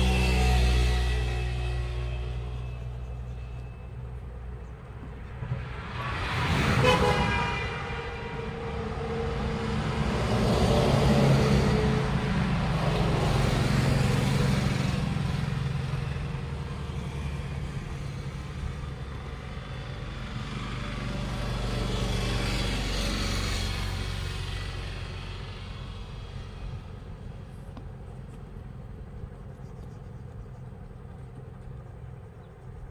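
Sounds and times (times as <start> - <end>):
vehicle engine rumble: 0.0 - 32.9.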